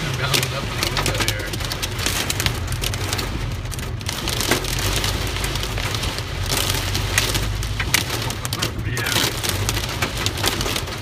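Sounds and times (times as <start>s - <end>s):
hail pelting car roof: 0.0s - 11.0s.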